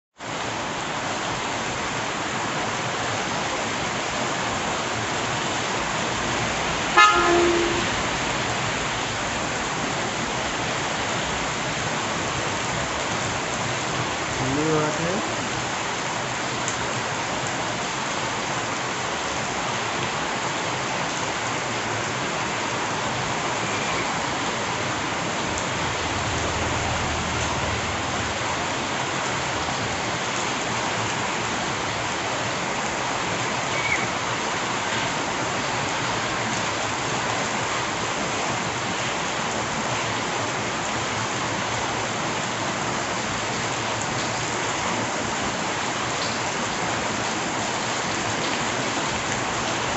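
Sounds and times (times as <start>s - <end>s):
steady rain hiss: 0.2s - 49.9s.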